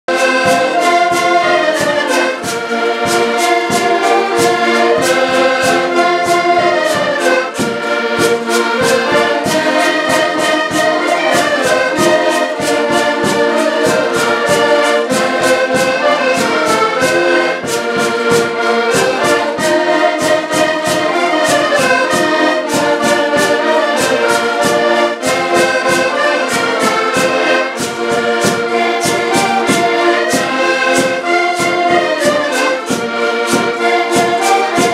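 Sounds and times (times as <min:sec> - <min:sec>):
button accordions playing folk tune: 0:00.0 - 0:34.9
wooden scraper rasping beat: 0:00.1 - 0:34.9.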